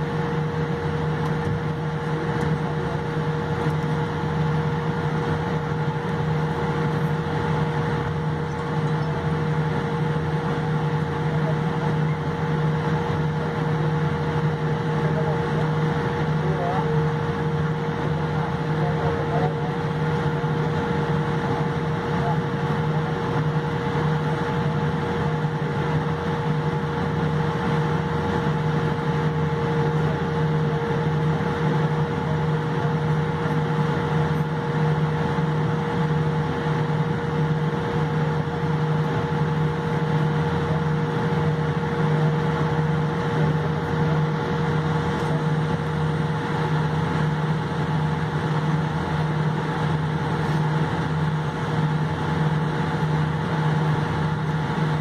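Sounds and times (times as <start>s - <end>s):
airliner cabin hum: 0.0s - 55.0s.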